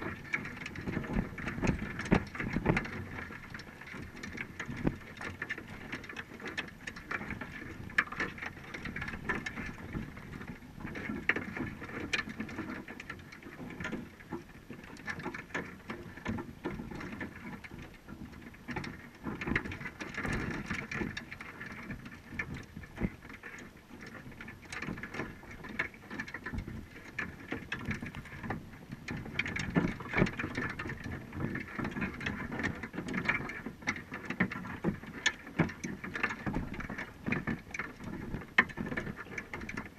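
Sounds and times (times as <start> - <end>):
muffled underwater water noise: 0.0 - 39.9
underwater clicks and crackles: 0.0 - 39.9.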